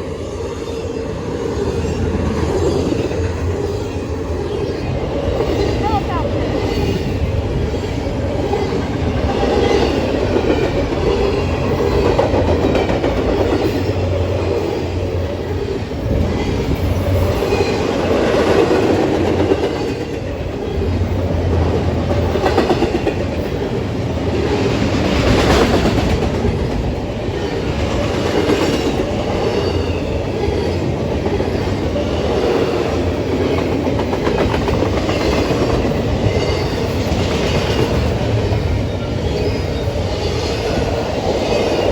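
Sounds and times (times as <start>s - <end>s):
freight train cars rumbling past: 0.0s - 41.9s.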